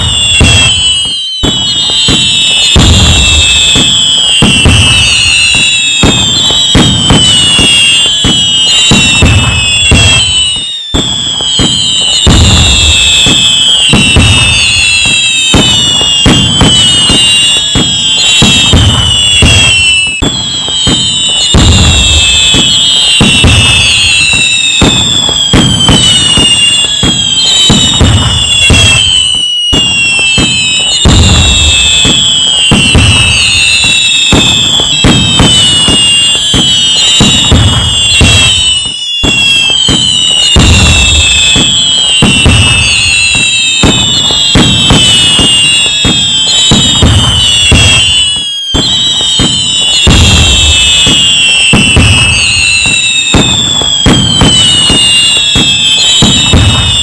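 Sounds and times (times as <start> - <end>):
fireworks cracks and bangs: 0.0 - 57.0
whistling firework shells: 0.0 - 57.0.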